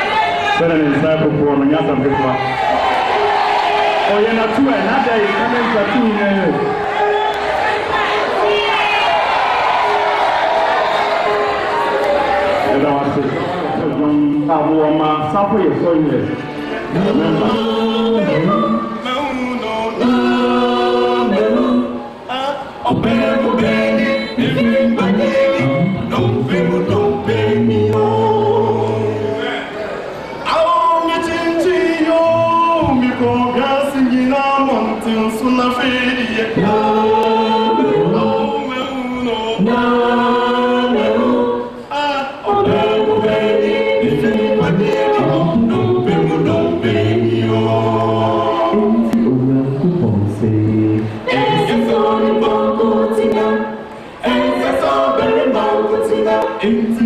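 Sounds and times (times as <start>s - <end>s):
voices singing long held notes: 0.0s - 14.0s, 15.5s - 57.0s.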